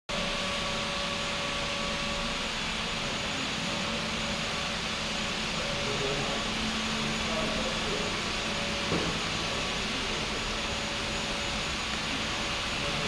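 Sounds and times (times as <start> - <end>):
factory machinery hum and hiss: 0.1 - 13.0
faint whine tones: 0.2 - 13.0.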